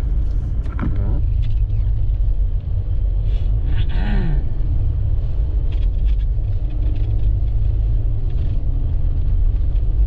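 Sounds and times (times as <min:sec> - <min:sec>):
vehicle rumbling on snowy road: 0:00.0 - 0:10.0.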